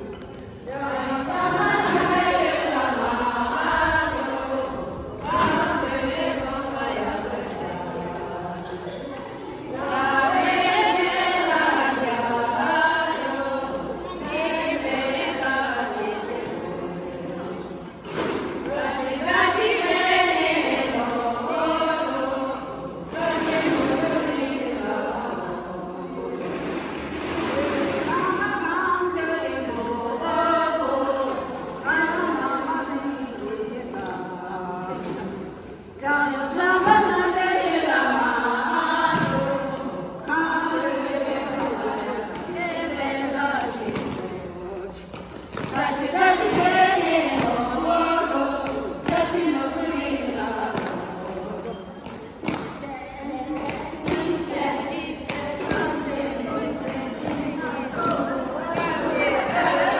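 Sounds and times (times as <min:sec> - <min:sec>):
group singing in unison: 0:00.0 - 0:59.9.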